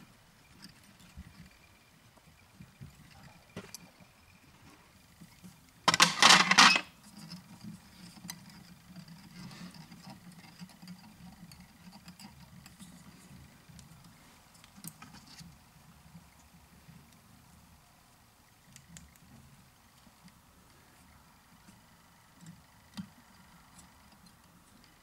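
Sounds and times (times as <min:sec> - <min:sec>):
faint scattered ticks: 0:00.0 - 0:05.9, 0:06.9 - 0:25.0.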